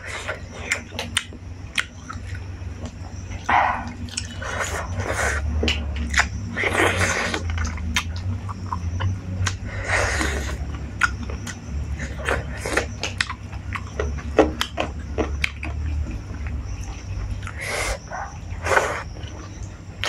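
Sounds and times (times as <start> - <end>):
chewing with wet clicks: 0.0 - 20.0
steady low hum: 0.0 - 20.0
lip smacks: 0.1 - 18.0.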